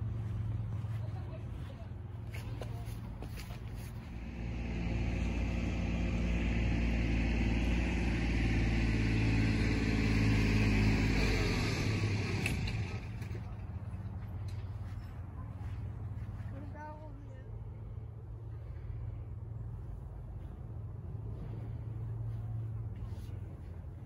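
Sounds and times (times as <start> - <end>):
passing vehicle engine hum: 0.0 - 24.0.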